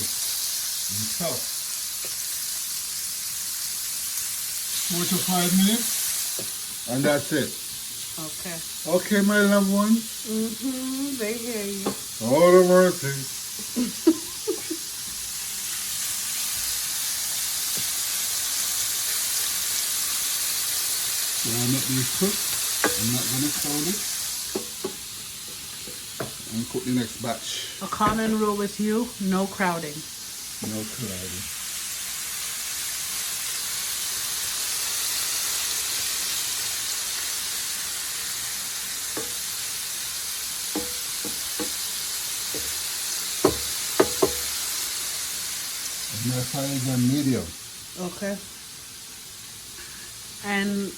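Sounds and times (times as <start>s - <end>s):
shrimp sizzling in a frying pan: 0.0s - 50.9s.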